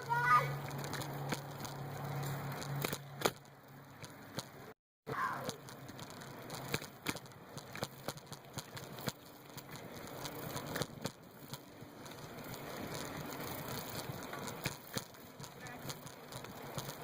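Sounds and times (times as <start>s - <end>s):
bike rattles and clicks: 0.0s - 17.0s.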